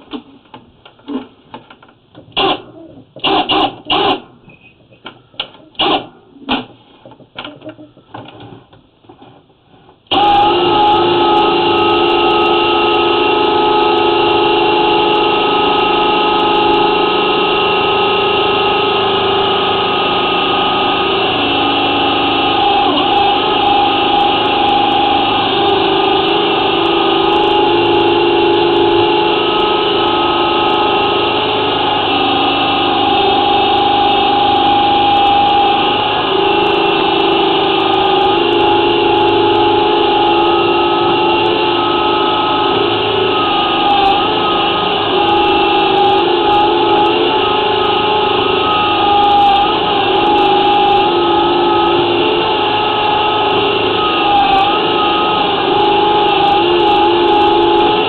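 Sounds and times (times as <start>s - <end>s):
drain-cleaning machine motor humming: 10.1s - 58.0s.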